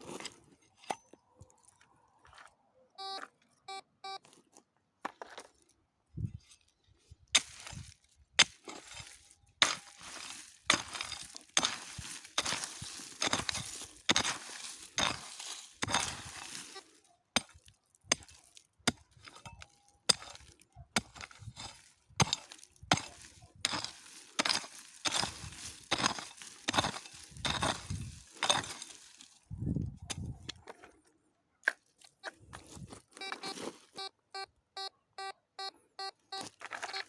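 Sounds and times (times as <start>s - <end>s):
tool striking stony ground: 0.0s - 3.3s, 7.3s - 31.0s, 31.6s - 34.0s, 36.3s - 37.0s.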